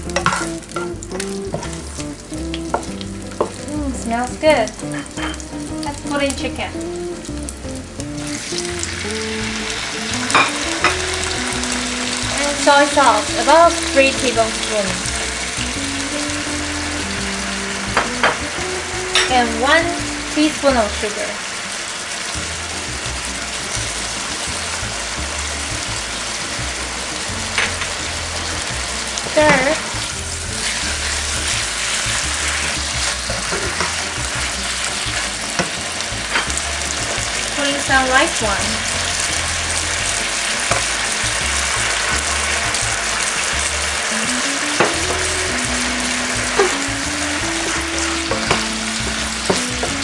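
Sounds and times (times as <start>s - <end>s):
food sizzling in wok: 0.0s - 50.0s.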